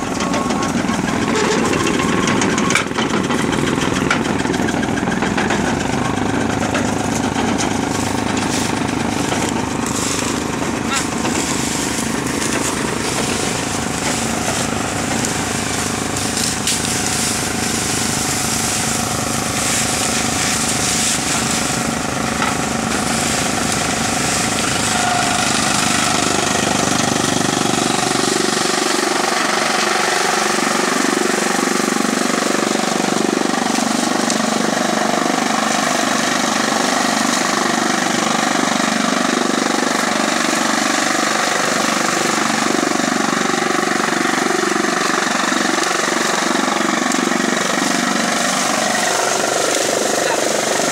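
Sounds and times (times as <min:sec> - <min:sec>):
chaff cutter chopping straw: 0:00.0 - 0:50.9
tractor engine: 0:00.0 - 0:50.9.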